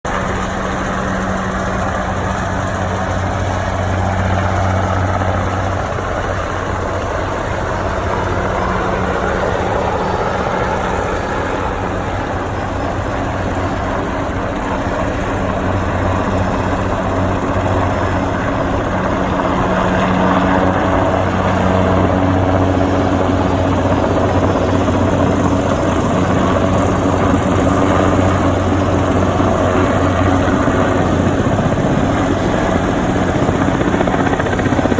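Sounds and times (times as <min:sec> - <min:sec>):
helicopter running: 0:00.0 - 0:34.9.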